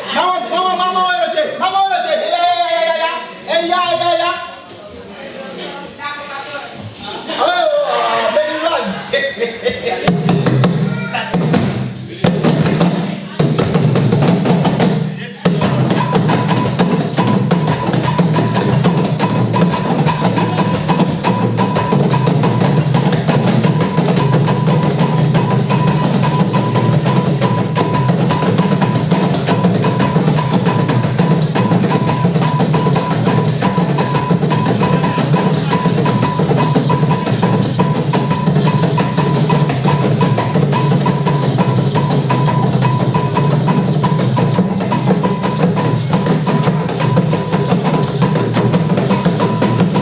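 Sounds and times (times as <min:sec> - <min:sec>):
fast drumming: 0:09.3 - 0:50.0.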